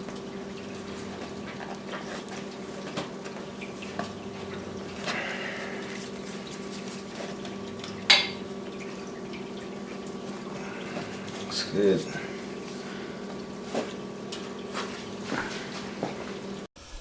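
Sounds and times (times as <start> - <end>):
steady low hum: 0.3 - 17.0.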